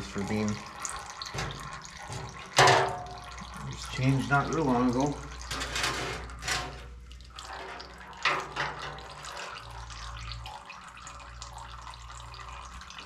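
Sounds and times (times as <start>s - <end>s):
oil pouring into drain pan: 0.0s - 13.0s.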